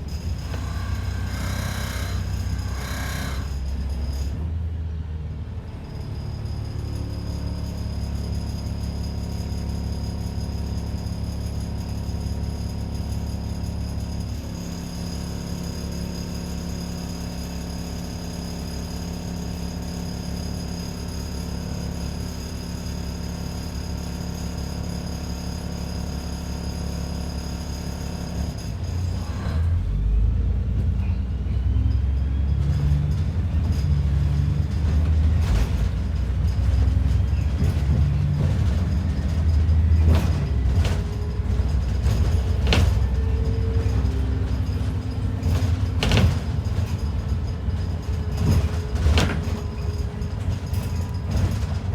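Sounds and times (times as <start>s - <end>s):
bus diesel engine: 0.0s - 51.9s.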